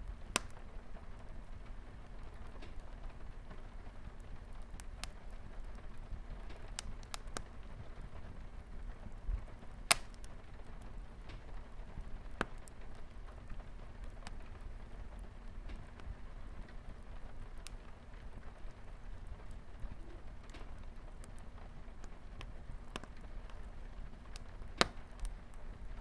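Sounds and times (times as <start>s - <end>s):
fire popping: 0.0s - 26.0s
fireplace fire crackling: 0.0s - 26.0s
rain on a window: 0.1s - 26.0s.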